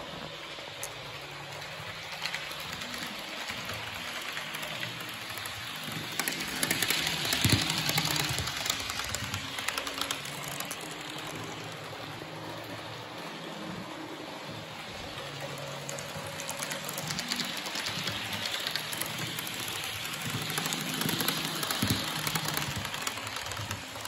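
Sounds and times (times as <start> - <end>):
electric train passing: 0.0 - 24.0
wheels clicking over rail joints: 0.0 - 24.0.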